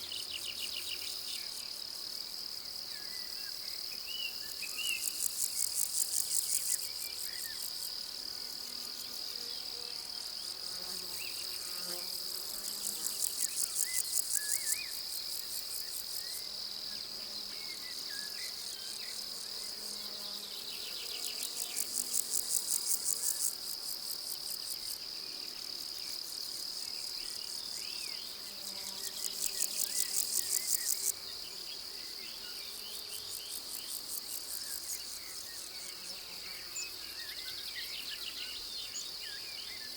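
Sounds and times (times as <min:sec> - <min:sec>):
insects buzzing high-pitched: 0:00.0 - 0:39.9
rapid pulsed insect chirping: 0:00.0 - 0:39.9.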